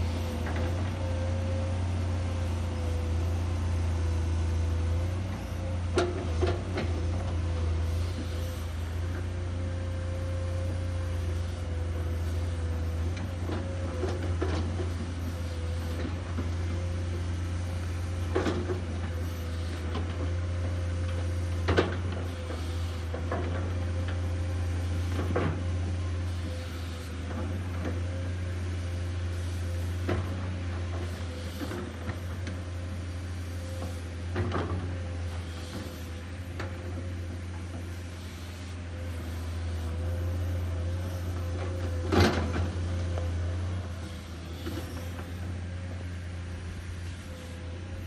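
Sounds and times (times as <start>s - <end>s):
excavator diesel engine droning: 0.0s - 48.0s.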